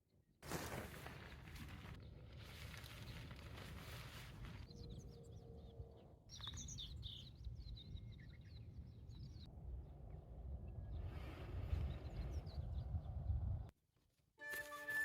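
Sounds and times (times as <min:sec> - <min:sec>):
small birds chirping: 0:01.2 - 0:13.7.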